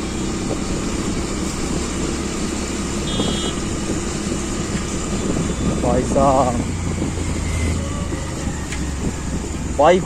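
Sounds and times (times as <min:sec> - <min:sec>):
idling vehicle engines: 0:00.0 - 0:10.0.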